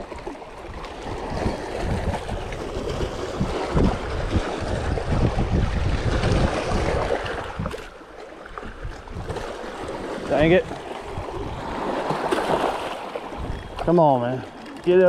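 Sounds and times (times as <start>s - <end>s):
waves lapping against rocks: 0.0s - 15.0s
wind buffeting microphone: 0.7s - 7.9s, 8.5s - 13.9s.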